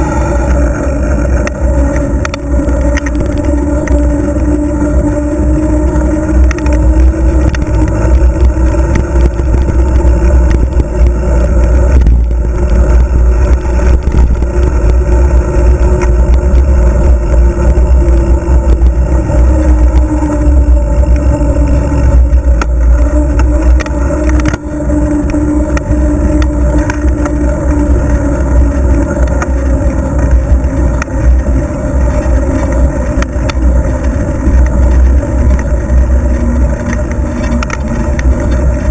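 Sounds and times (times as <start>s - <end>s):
bicycle tyres rolling on pavement: 0.0s - 38.9s
wind buffeting microphone: 0.0s - 38.9s.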